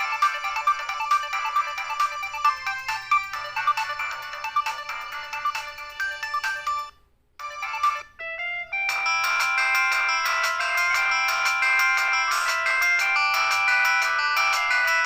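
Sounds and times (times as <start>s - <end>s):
polyphonic phone ringtones: 0.0s - 15.0s.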